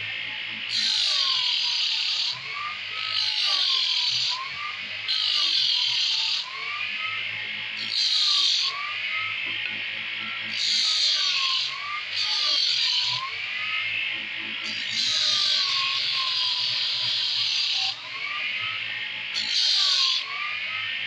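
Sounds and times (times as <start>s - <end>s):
motor whine: 0.0s - 21.0s.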